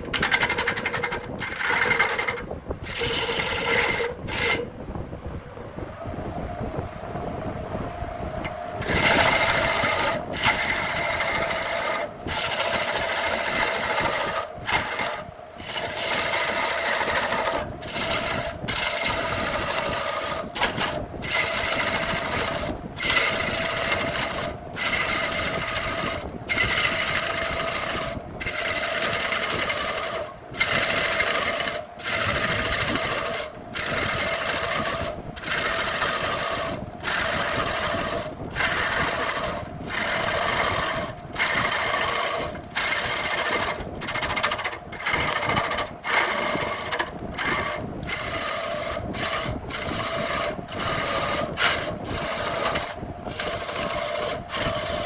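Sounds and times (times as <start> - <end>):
lathe motor hum: 0.0 - 4.8, 8.4 - 55.0.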